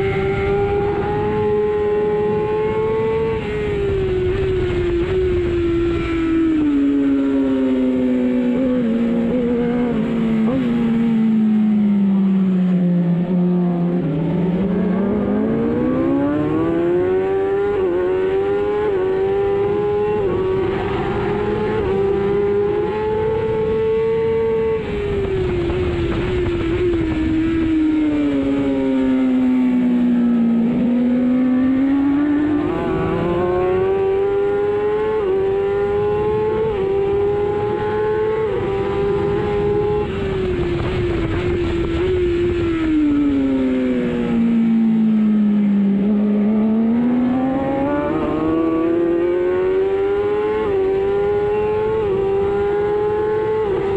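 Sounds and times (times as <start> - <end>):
superbike engine revving: 0.0 - 11.9, 12.7 - 53.9.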